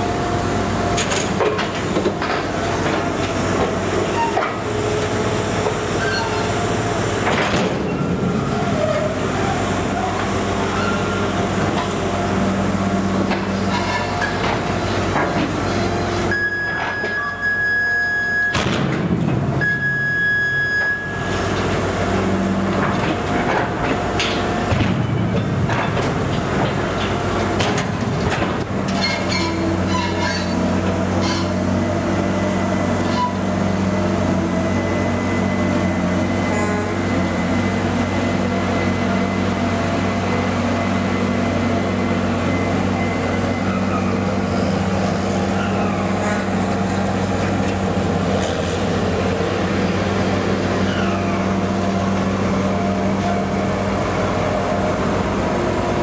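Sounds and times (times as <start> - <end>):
crane machinery drone: 0.0 - 56.0.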